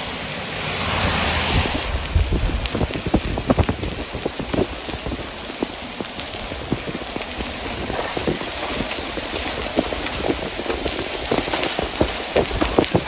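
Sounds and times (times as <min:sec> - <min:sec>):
rain hissing: 0:00.0 - 0:13.0
hailstones striking hard surfaces: 0:02.0 - 0:13.0.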